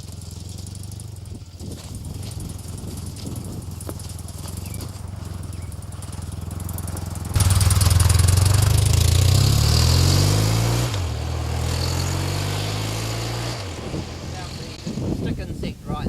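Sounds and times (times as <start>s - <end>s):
motorcycle engine: 0.0s - 15.6s.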